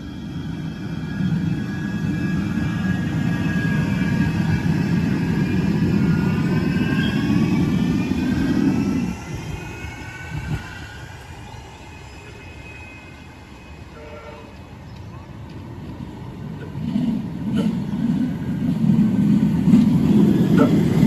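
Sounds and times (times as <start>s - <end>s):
tram wheels rumbling on rail: 0.0s - 21.0s.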